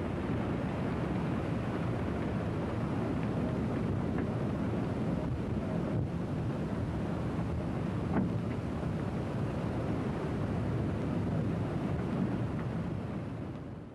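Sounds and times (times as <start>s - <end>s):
rumble of wind and water: 0.0s - 13.9s.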